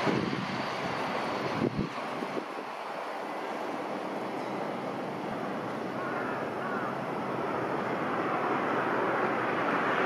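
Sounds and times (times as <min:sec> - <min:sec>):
truck engine and tyre noise: 0:00.0 - 0:10.0.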